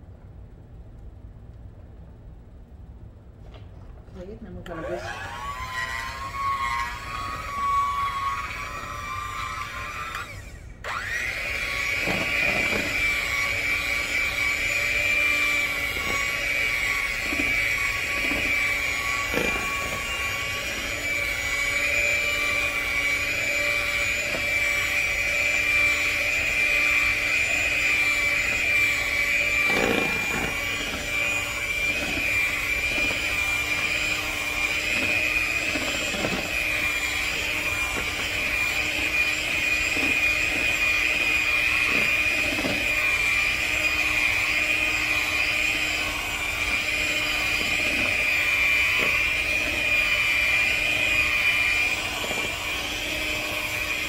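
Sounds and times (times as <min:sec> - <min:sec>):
electric mixer whining: 0:04.6 - 0:54.0.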